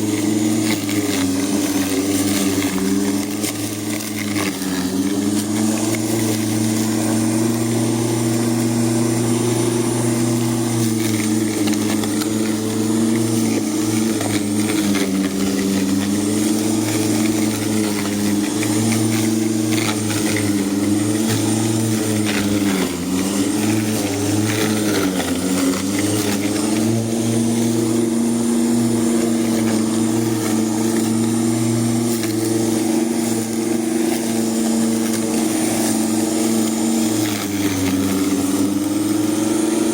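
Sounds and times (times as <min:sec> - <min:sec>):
lawn mower cutting grass: 0:00.0 - 0:39.9.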